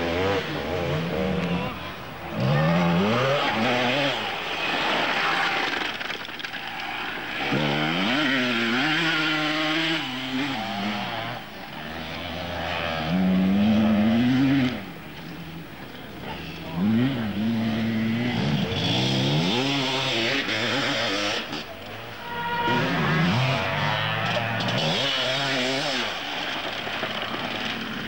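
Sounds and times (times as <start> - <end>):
motorcycle engines revving past: 0.0 - 28.0.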